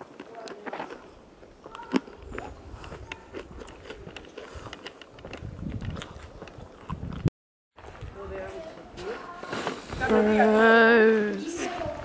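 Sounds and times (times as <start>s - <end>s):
footsteps crunching on gritty paving: 0.0s - 10.6s.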